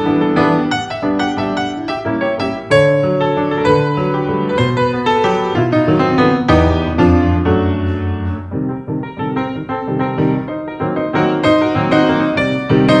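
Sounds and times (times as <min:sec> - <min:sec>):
grand piano playing: 0:00.0 - 0:13.0.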